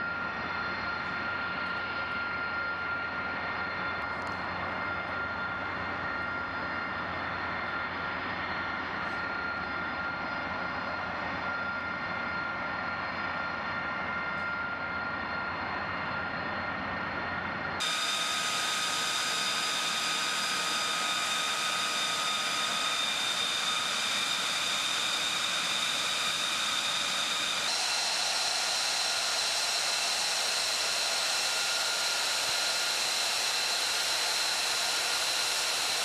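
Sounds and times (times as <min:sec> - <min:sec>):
jet engine high whine: 0:00.0 - 0:36.0.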